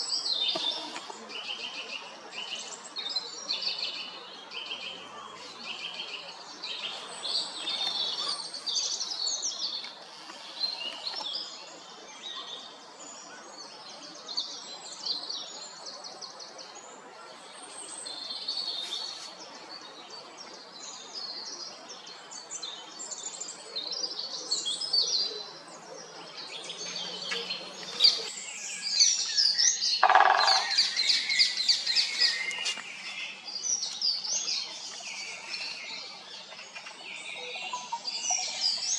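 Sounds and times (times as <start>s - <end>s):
songbirds singing and chirping: 0.0s - 38.9s
steady outdoor hiss: 0.0s - 38.9s.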